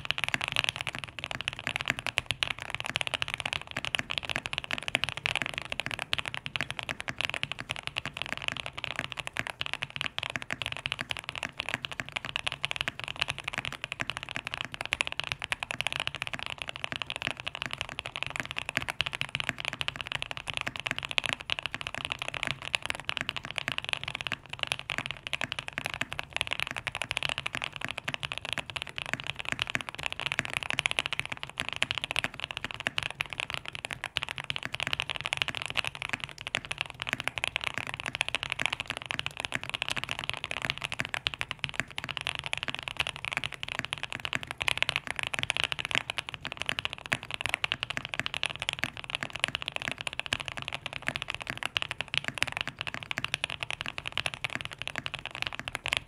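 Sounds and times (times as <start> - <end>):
mechanical keyboard typing: 0.0 - 56.0.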